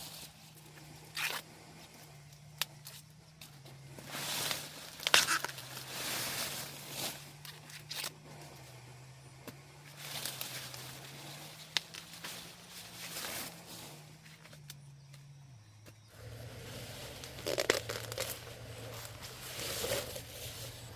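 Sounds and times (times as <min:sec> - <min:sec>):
corn plants snapping: 0:00.0 - 0:08.6, 0:09.4 - 0:20.9
corn leaves rustling: 0:00.0 - 0:08.8, 0:09.7 - 0:15.4, 0:16.1 - 0:20.9.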